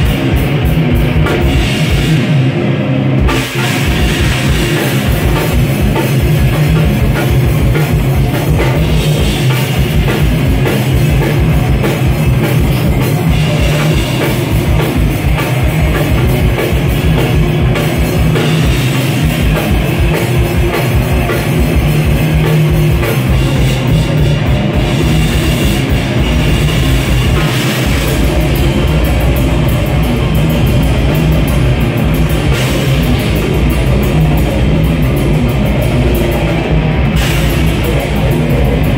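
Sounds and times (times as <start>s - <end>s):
distorted electric guitar: 0.0s - 38.9s
drum kit with rapid kick drum: 0.0s - 38.9s.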